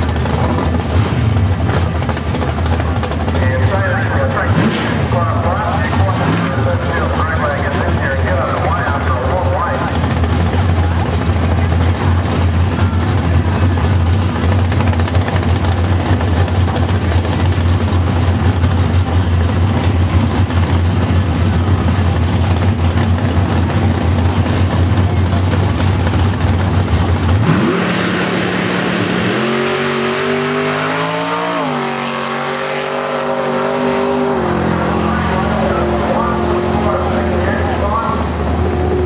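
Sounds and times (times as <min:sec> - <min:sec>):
drag racing car engine: 0:00.0 - 0:39.0.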